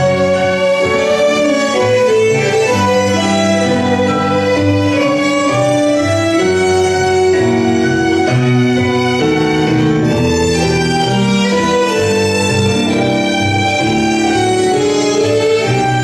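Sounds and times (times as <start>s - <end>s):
tango music with violins: 0.0s - 16.0s.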